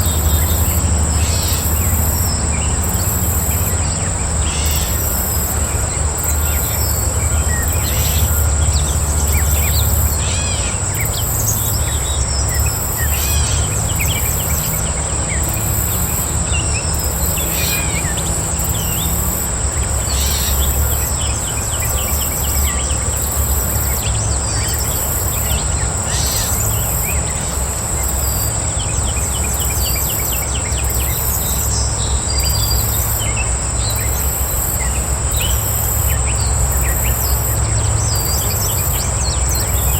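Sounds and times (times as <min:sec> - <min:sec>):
birds chirping: 0:00.0 - 0:39.9
high insect trill: 0:00.0 - 0:39.9
pulsing insect chirp: 0:00.0 - 0:39.9.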